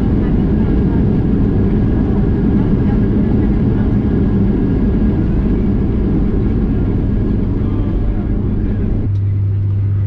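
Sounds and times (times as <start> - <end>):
aircraft cabin engine rumble: 0.0 - 10.0
low hum: 0.0 - 10.0.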